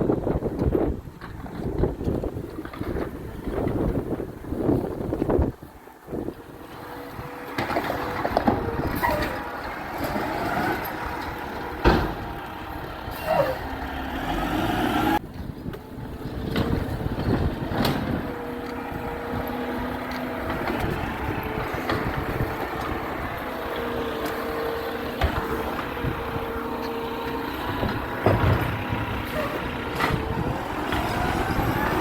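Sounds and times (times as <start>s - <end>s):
garbage truck running: 0.0s - 32.0s.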